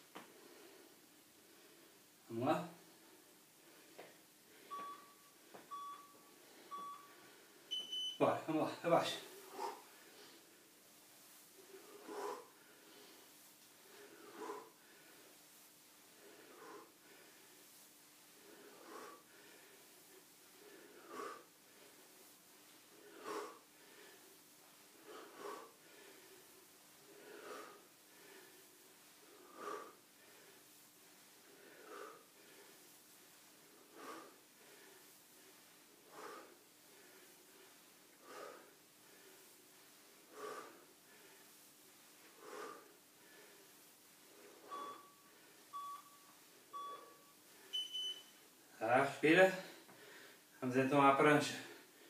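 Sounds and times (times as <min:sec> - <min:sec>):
faint steady hum: 0:00.0 - 0:50.8.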